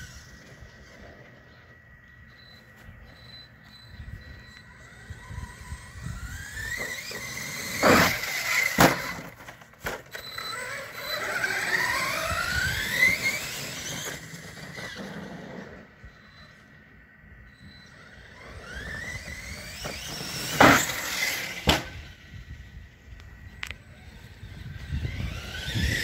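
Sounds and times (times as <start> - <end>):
electric toy truck motor whining: 0.0 - 26.0.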